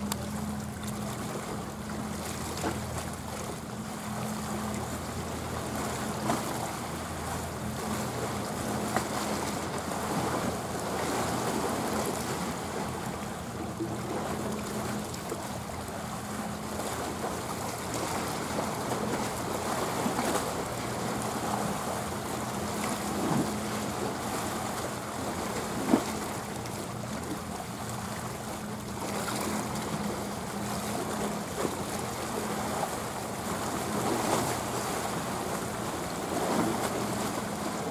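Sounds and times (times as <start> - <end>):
ship engine drone: 0.0 - 37.9
small waves lapping: 0.0 - 37.9.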